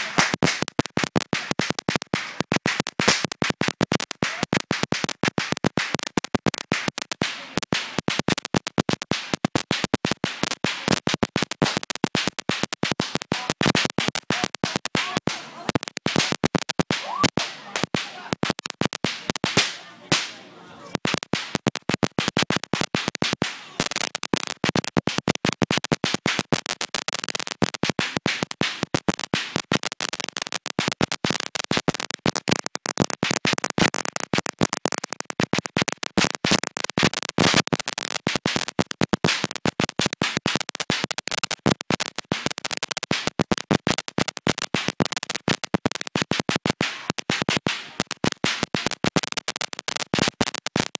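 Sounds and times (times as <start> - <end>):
firecrackers banging: 0.0 - 50.9.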